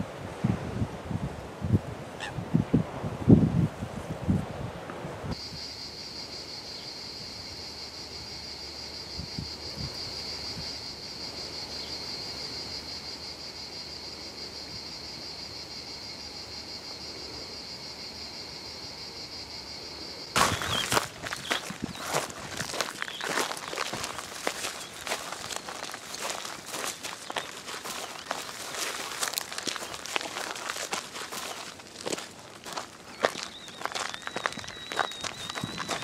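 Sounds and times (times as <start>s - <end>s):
cicadas droning: 5.3s - 36.0s.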